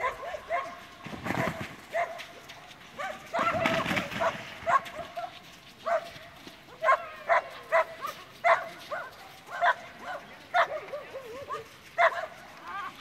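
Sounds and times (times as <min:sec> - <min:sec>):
dog barking: 0:00.0 - 0:02.3, 0:03.0 - 0:12.4.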